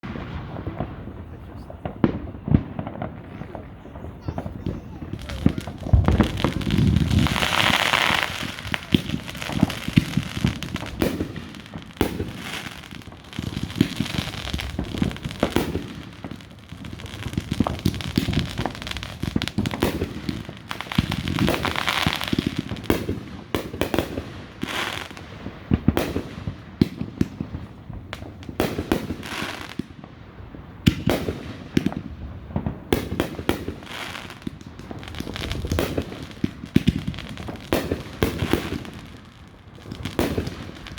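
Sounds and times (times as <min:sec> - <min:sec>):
fireworks bangs and booms: 0:00.0 - 0:40.9
fireworks crackling: 0:00.0 - 0:40.9.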